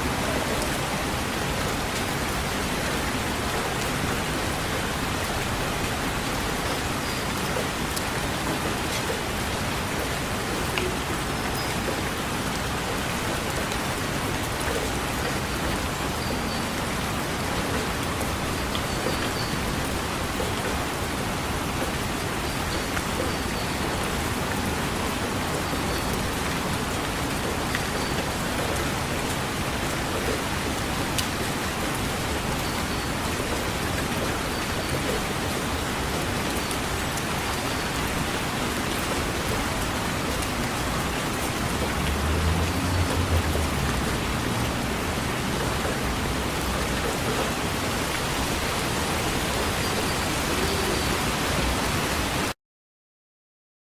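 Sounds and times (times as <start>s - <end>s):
steady rain hiss: 0.0s - 52.5s
rain drop ticks: 0.2s - 48.2s.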